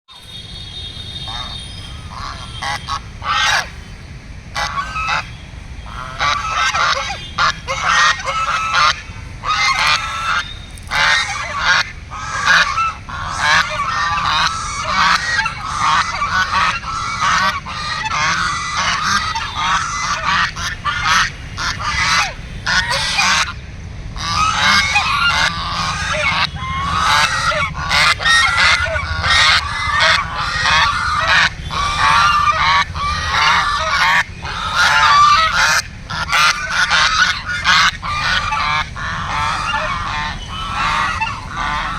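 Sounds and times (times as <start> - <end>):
ducks quacking: 0.1 - 23.6, 24.2 - 41.9.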